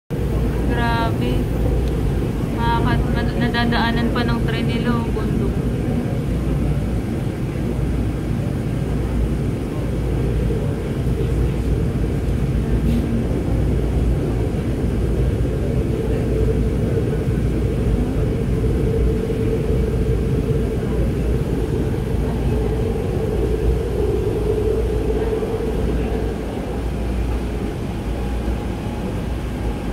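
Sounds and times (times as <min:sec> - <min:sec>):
metro train running rumble: 0:00.1 - 0:29.9.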